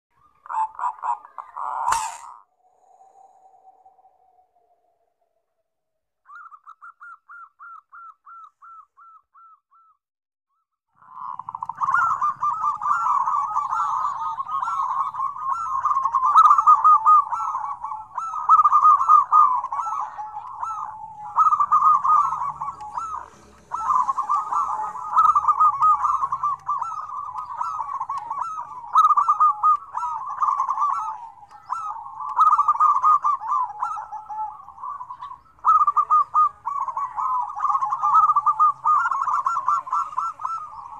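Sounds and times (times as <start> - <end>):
doves cooing in chorus: 0.1 - 5.0, 6.3 - 9.9, 11.0 - 40.9.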